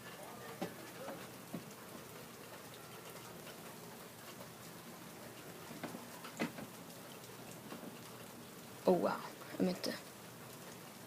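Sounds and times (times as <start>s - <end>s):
faint steady rain: 0.0s - 11.0s
light dripping ticks: 0.0s - 11.0s.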